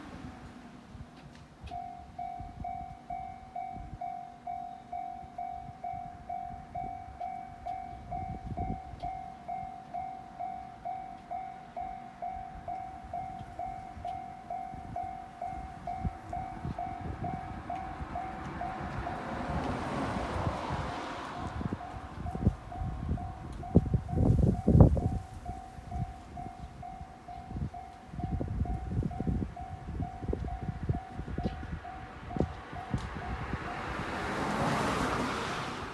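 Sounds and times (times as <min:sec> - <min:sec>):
approaching train: 0:00.0 - 0:35.9
level crossing alarm ringing: 0:01.7 - 0:19.4, 0:21.4 - 0:33.4.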